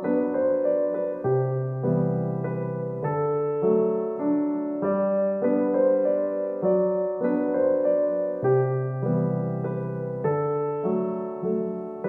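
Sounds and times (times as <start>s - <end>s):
gentle keyboard melody: 0.0s - 12.0s.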